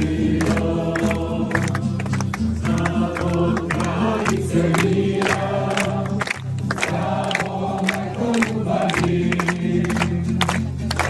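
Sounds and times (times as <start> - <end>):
crowd singing a hymn: 0.0 - 11.0
hands clapping: 0.0 - 11.0.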